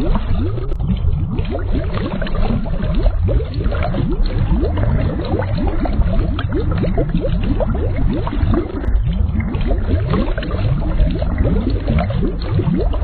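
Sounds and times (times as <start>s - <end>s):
water bubbling and gurgling: 0.0s - 13.0s.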